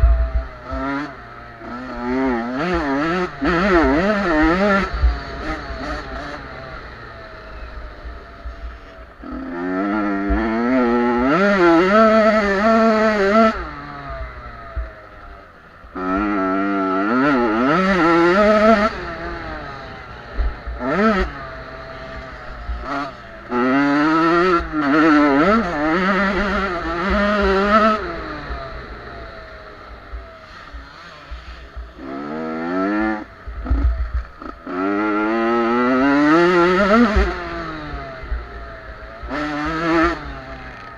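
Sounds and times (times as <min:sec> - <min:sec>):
motocross bikes revving past: 0:00.0 - 0:40.9.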